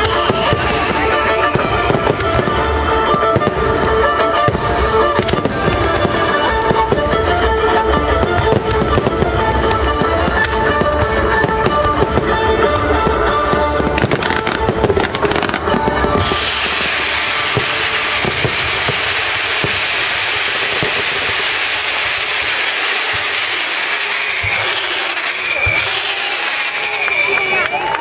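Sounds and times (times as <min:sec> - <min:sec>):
firework stars crackling: 0:00.0 - 0:28.0
fireworks bursting with bangs: 0:00.0 - 0:28.0
music: 0:00.0 - 0:28.0.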